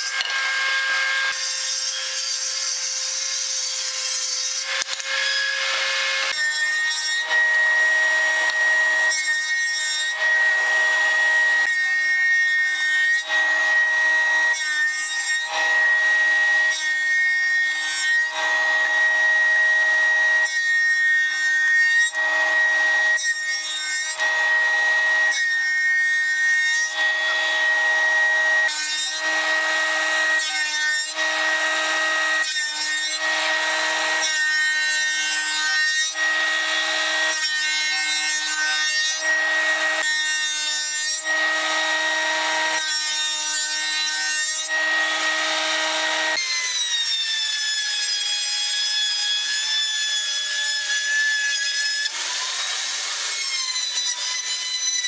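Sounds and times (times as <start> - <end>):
rasping wood cutting: 0.0 - 55.0.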